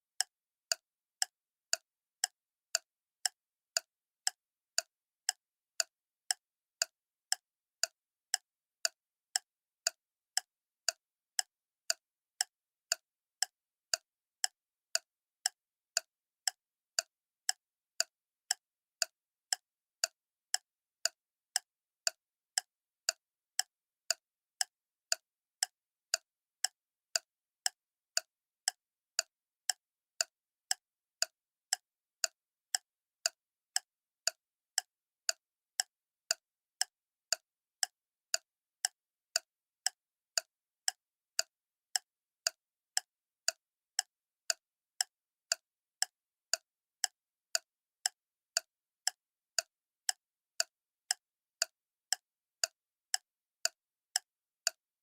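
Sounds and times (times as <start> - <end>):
clock ticking: 0.2 - 54.8.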